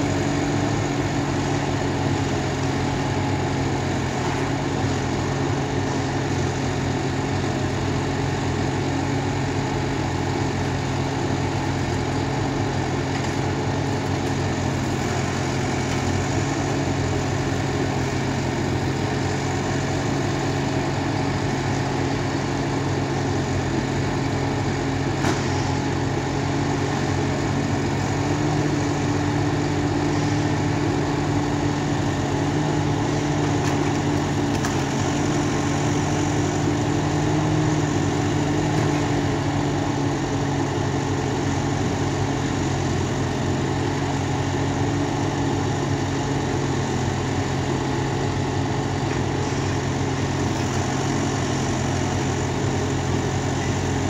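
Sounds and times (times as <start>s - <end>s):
diesel engine running: 0.0s - 54.0s
hydraulic crane lifting logs: 0.0s - 54.0s.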